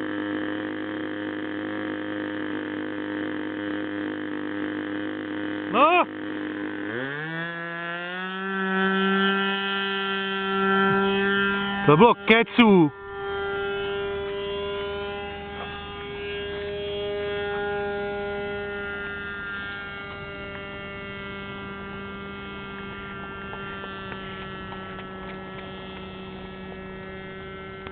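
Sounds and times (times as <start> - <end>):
model airplane engine buzzing: 0.0 - 27.9.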